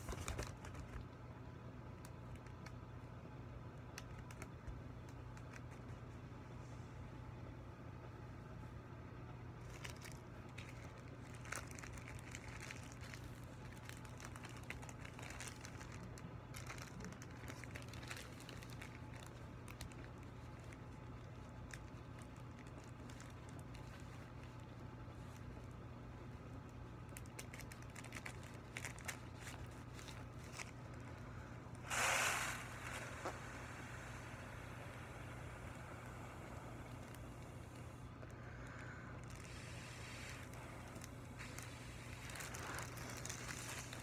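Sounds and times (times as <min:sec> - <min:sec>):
foil balloon crinkling: 0:00.0 - 0:01.2, 0:09.5 - 0:44.0
low steady hum: 0:00.0 - 0:44.0.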